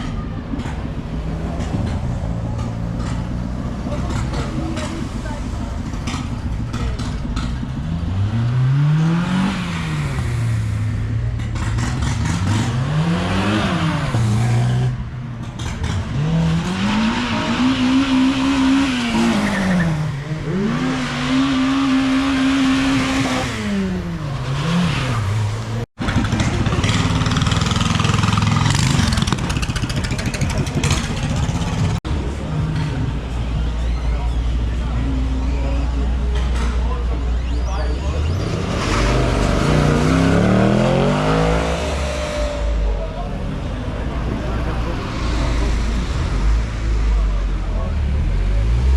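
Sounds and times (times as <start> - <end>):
car engine revving: 0.9 - 48.9.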